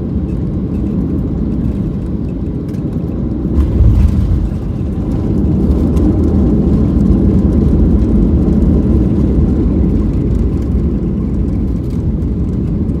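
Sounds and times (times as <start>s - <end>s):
airplane cabin engine rumble: 1.0s - 13.0s.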